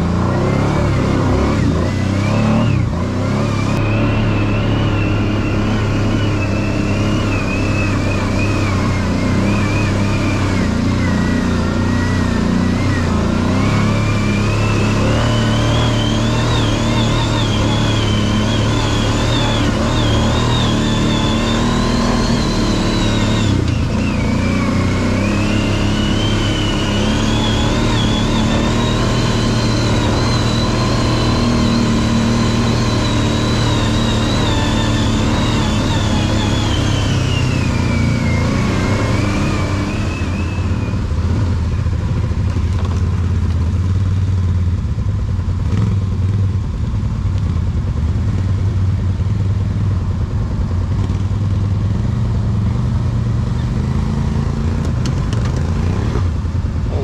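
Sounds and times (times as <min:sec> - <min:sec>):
atv engine running: 0:00.0 - 0:57.0
high engine whine: 0:00.0 - 0:57.0.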